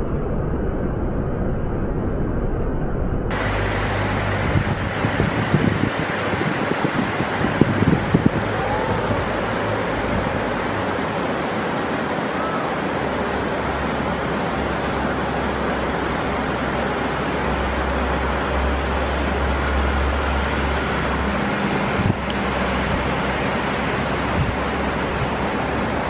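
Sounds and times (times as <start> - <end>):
fast river water rushing: 3.3 - 26.0.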